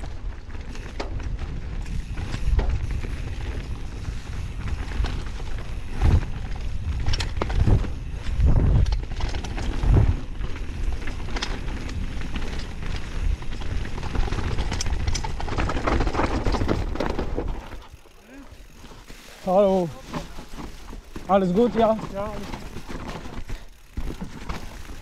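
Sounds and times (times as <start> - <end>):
bike thudding and rattling: 0.0 - 25.0
tyre and wind noise: 0.0 - 25.0.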